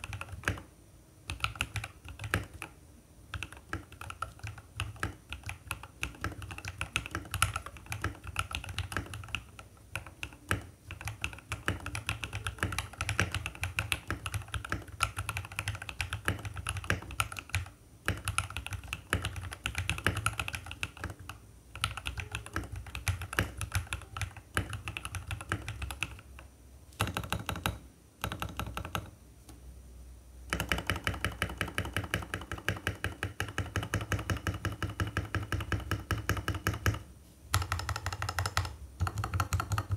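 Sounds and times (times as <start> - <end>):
mechanical keyboard typing: 0.0 - 0.7, 1.3 - 29.2, 30.5 - 39.9.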